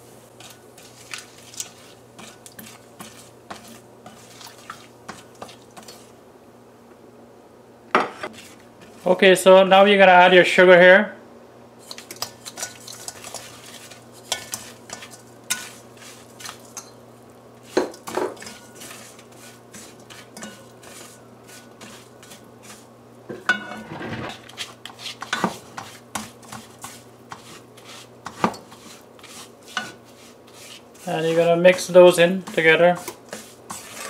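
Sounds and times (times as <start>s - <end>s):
spoon scraping pan: 0.3s - 6.2s, 8.1s - 9.2s, 11.8s - 17.0s, 17.6s - 34.0s.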